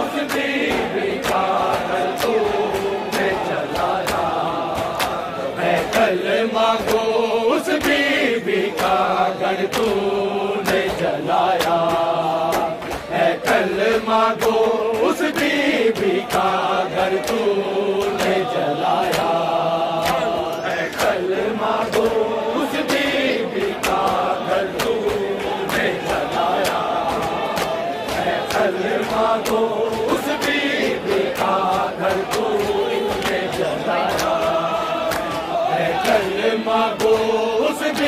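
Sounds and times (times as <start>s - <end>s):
hand slaps on bare chests: 0.0s - 38.0s
men chanting in unison: 0.0s - 38.0s.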